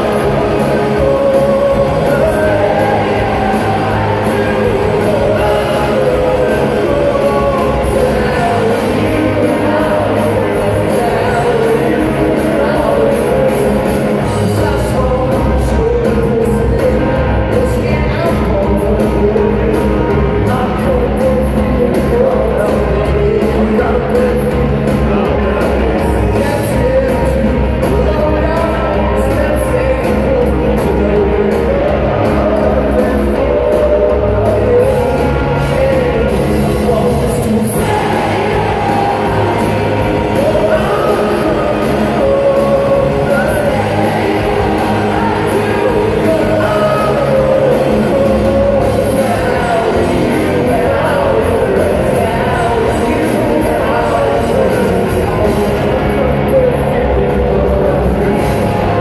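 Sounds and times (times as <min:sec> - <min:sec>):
live rock band playing: 0:00.0 - 0:59.0
person singing lead vocal: 0:00.0 - 0:59.0.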